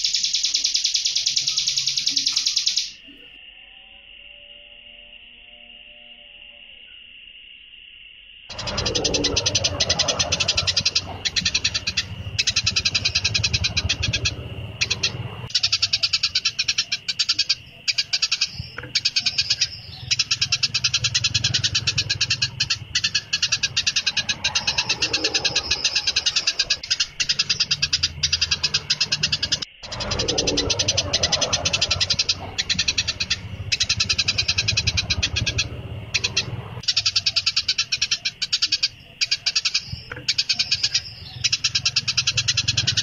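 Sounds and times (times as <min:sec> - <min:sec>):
songbird chattering trill: 0:00.0 - 0:03.4, 0:08.5 - 0:43.0.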